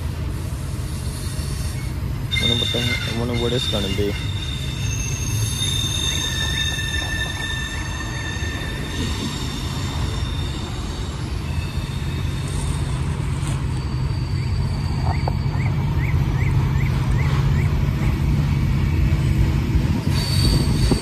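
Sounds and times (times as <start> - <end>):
train wheels rumbling on rail: 0.0 - 21.0
high-pitched wheel squeal: 0.9 - 16.8, 20.0 - 21.0.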